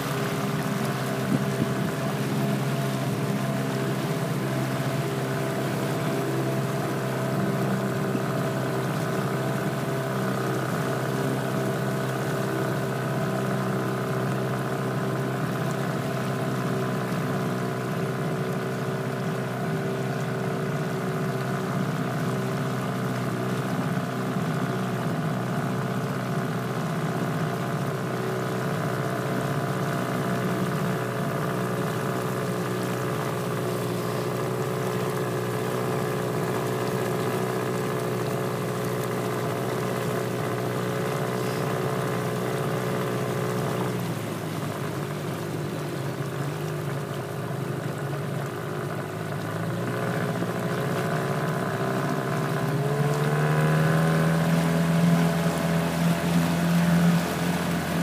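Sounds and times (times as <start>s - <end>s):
boat engine running steadily: 0.0s - 58.0s.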